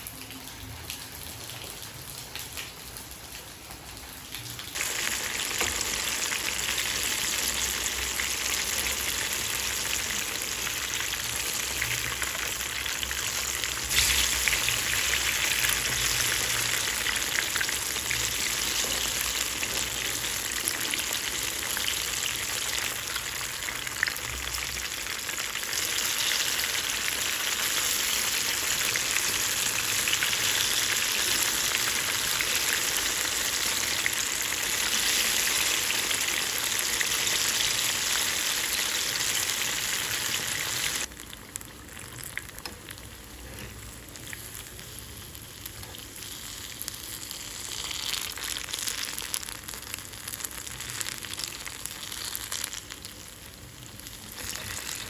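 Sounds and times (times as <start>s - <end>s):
food frying in hot oil: 0.0s - 55.0s.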